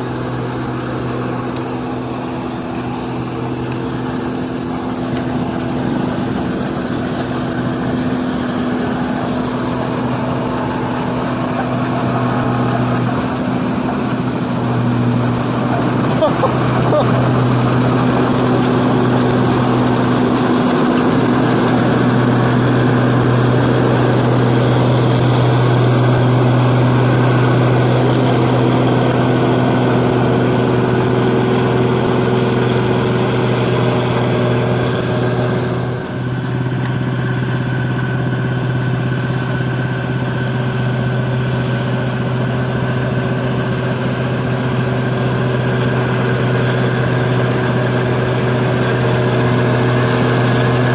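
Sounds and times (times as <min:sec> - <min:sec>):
combine harvester engine drone: 0:00.0 - 0:50.9.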